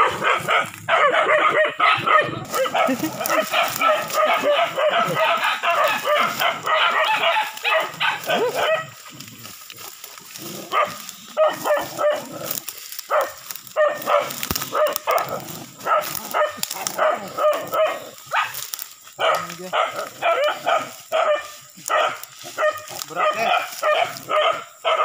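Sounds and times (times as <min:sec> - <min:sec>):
dogs barking and yelping: 0:00.0 - 0:25.0.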